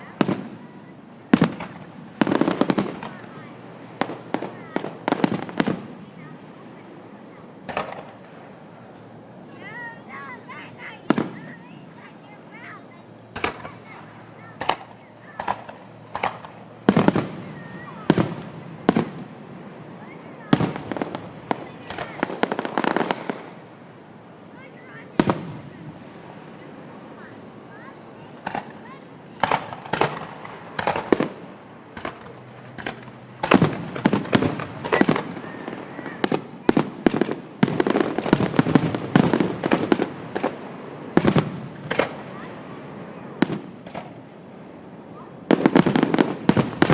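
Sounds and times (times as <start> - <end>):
fireworks bangs: 0.0 - 46.9.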